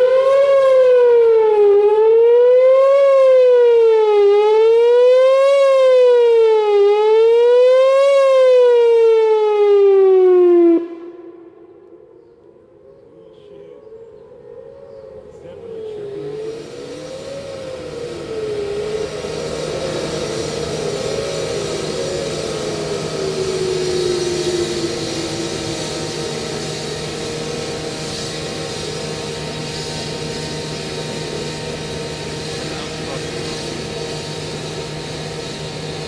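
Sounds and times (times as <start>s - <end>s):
electronic siren wavering: 0.0s - 12.6s, 14.2s - 36.0s.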